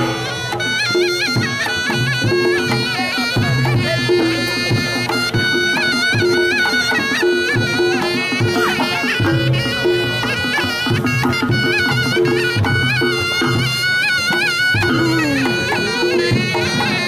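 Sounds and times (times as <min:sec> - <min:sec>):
drum strokes: 0:00.0 - 0:17.0
shawm playing wavering melody: 0:00.0 - 0:17.0.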